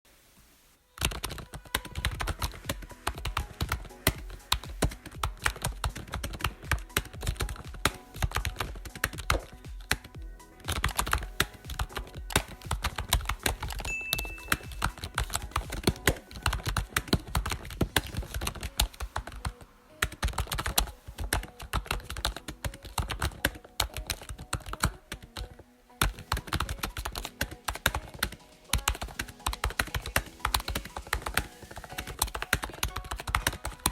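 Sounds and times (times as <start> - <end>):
background music: 0.8 - 33.9
computer keyboard typing: 1.0 - 33.9.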